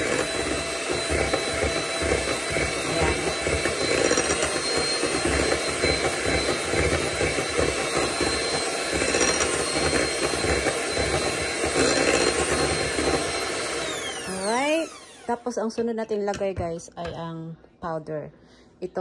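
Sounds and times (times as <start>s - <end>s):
electric hand mixer whining: 0.0s - 15.8s.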